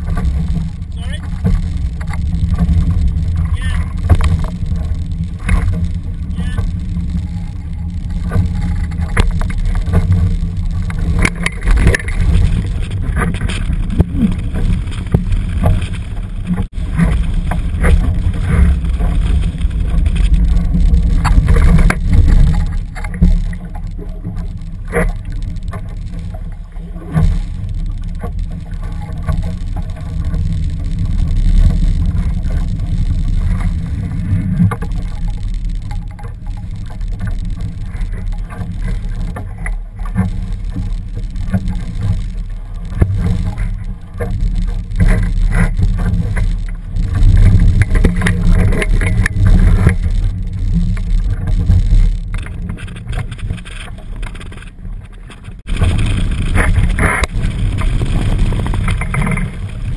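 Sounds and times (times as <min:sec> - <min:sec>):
water splashing against hull: 0:00.0 - 0:59.9.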